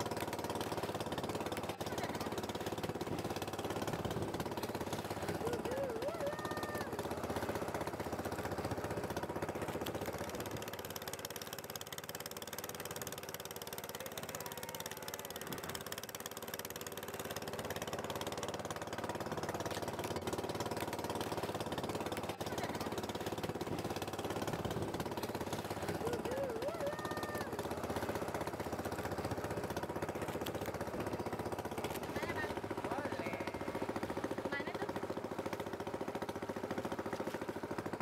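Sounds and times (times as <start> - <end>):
boat engine chugging: 0.0 - 38.0.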